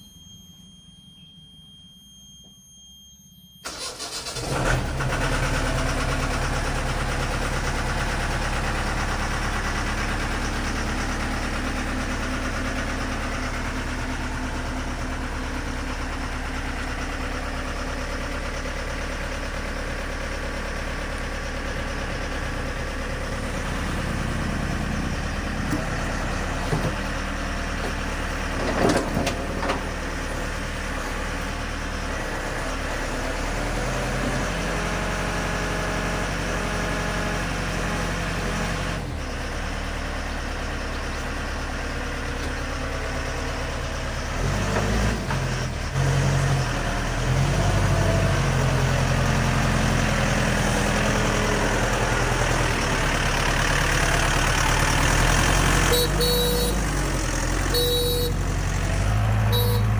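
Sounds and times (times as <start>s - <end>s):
heavy vehicle engine running: 3.7s - 59.9s.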